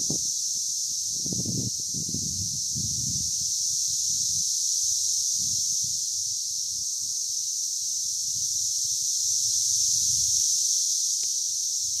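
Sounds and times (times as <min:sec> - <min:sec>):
cicadas chorusing: 0:00.0 - 0:12.0.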